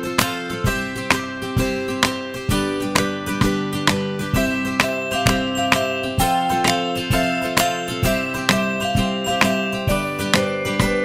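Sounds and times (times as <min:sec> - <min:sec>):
guitar music with steady beat: 0:00.0 - 0:11.0.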